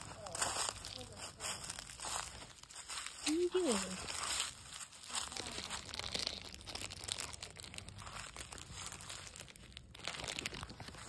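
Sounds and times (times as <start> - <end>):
leaves crunching underfoot: 0.0 - 11.0.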